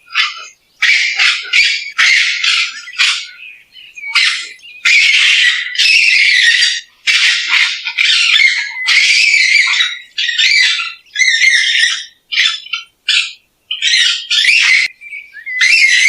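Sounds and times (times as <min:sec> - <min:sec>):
raccoon squealing calls: 0:00.1 - 0:16.0.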